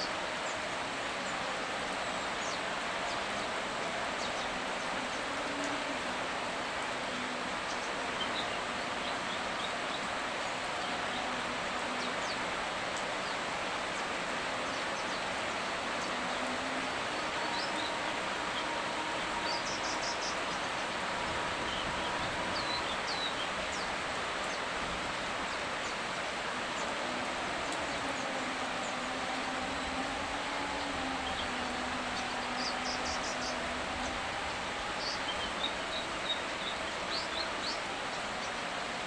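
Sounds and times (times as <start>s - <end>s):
rain hiss: 0.0s - 39.0s.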